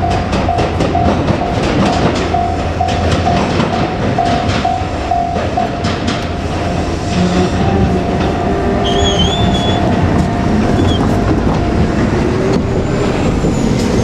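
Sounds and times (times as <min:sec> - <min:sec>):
level crossing warning tone: 0:00.0 - 0:14.0
train rumbling past: 0:00.0 - 0:14.0
train wheels clacking: 0:00.0 - 0:14.0.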